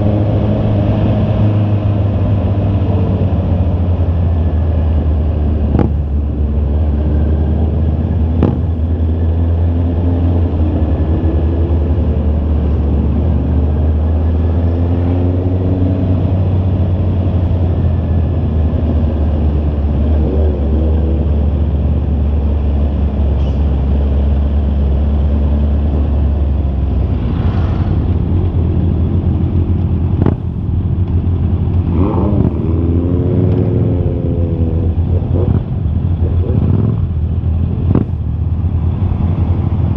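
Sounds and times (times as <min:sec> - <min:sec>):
motorcycle engine revving: 0:00.0 - 0:23.0, 0:24.3 - 0:30.7, 0:31.6 - 0:39.9
heavy low rumble: 0:01.8 - 0:14.2, 0:15.4 - 0:39.9.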